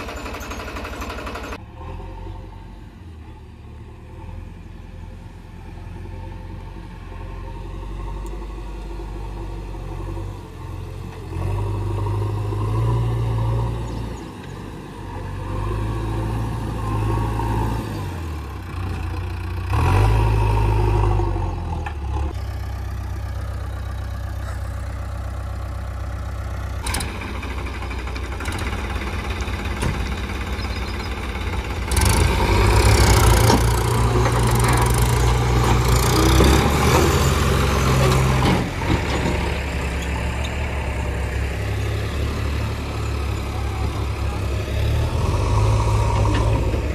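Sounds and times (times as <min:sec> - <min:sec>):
heavy diesel engines revving: 0:00.0 - 0:46.9.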